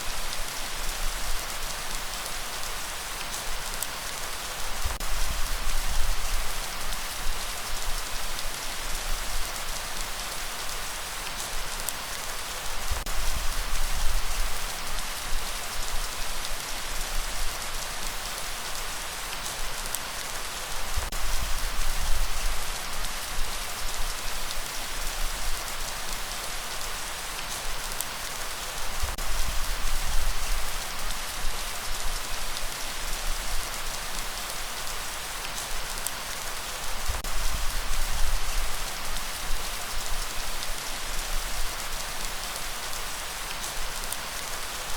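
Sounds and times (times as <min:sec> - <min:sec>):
heavy rain hiss: 0:00.0 - 0:44.9.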